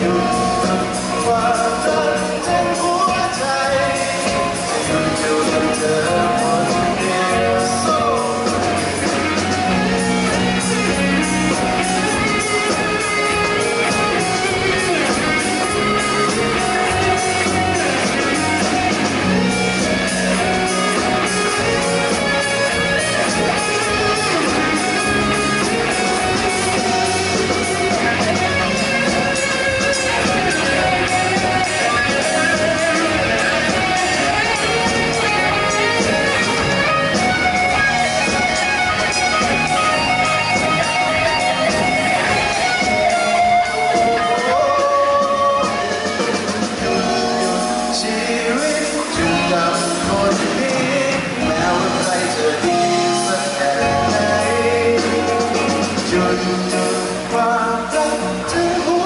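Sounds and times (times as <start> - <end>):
bass guitar line: 0.0 - 59.0
electric guitars: 0.0 - 59.0.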